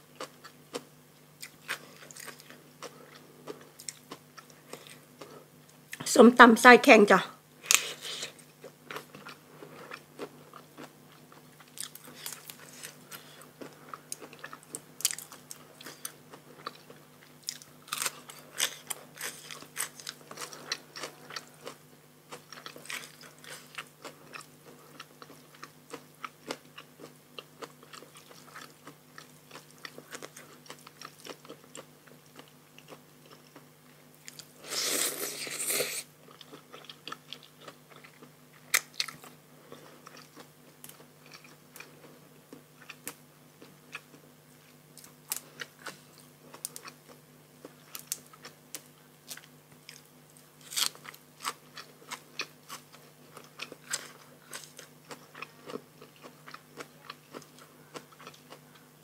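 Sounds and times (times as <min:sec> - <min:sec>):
crunchy bites and wet chewing: 0:00.1 - 0:06.0, 0:07.7 - 0:59.0.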